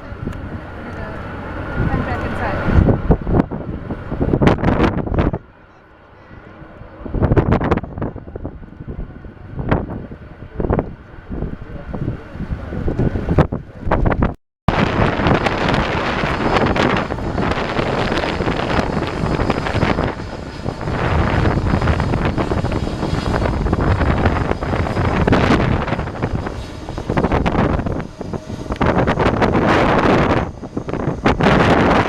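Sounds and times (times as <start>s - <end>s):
gusty wind on microphone: 0.0s - 5.6s, 6.2s - 32.0s.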